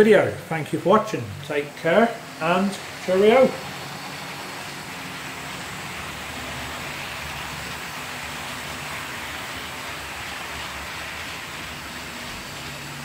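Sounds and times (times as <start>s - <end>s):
model train rolling whirr: 1.5s - 13.0s.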